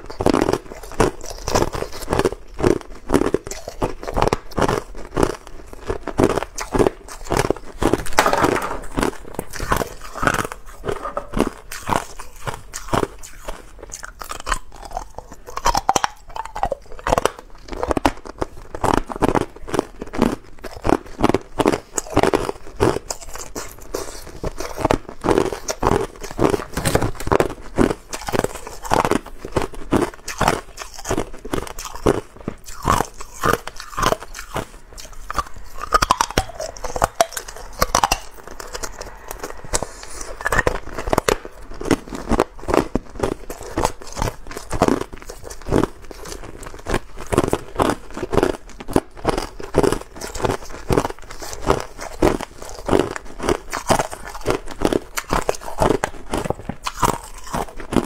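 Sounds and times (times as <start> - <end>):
ice cubes crunching in teeth: 0.0 - 58.0.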